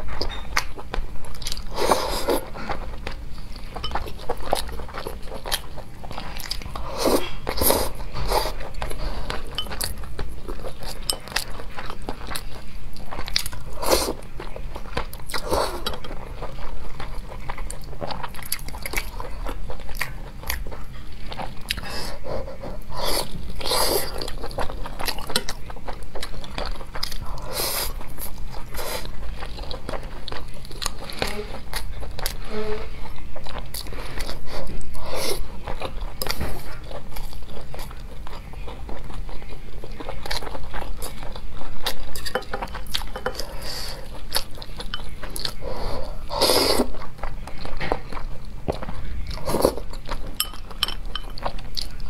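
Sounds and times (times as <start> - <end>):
chewing and biting food: 0.0 - 32.4, 33.0 - 52.0.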